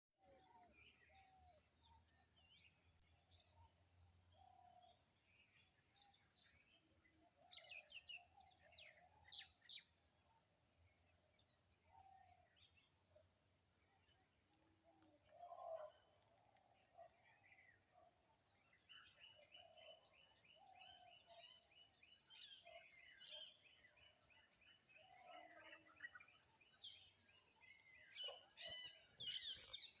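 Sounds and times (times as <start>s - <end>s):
high-pitched insect trill: 0.2s - 30.0s.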